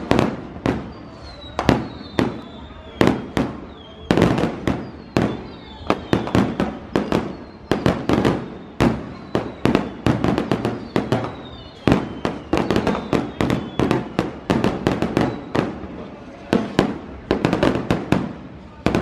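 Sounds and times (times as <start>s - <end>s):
faint high firework whistle: 0.0s - 19.0s
fireworks bangs: 0.0s - 19.0s.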